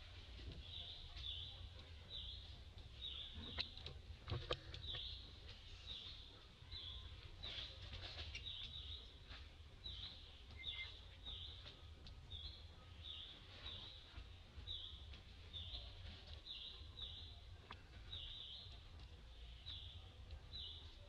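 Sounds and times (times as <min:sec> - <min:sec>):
bird chirping: 0:00.5 - 0:21.0.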